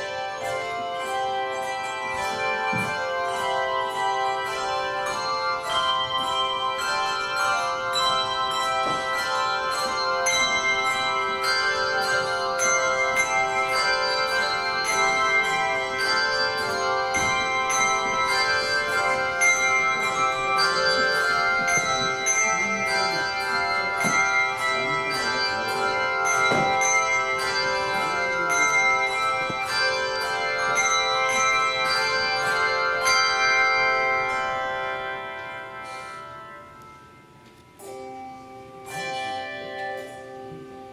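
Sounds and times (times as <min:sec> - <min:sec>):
handbell chords ringing: 0:00.0 - 0:40.9.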